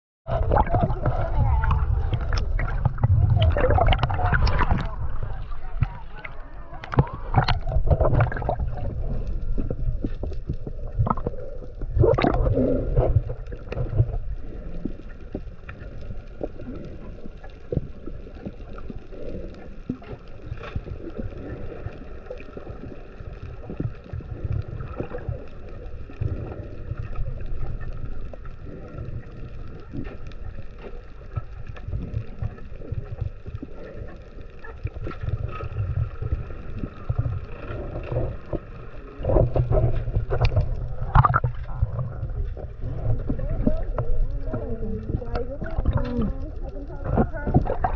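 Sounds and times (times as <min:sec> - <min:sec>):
muffled underwater rumble: 0:00.2 - 0:47.9
small underwater clicks: 0:00.3 - 0:47.9.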